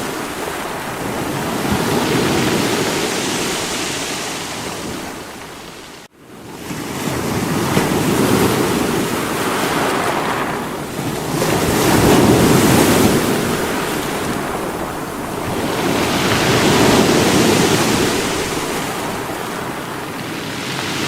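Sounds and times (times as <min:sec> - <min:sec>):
sea waves breaking on rocks: 0:00.0 - 0:21.0.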